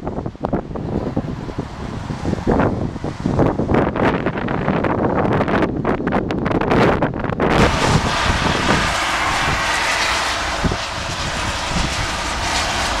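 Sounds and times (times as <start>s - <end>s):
strong wind blowing: 0.0s - 13.0s
wind gusts buffeting microphone: 0.0s - 13.0s.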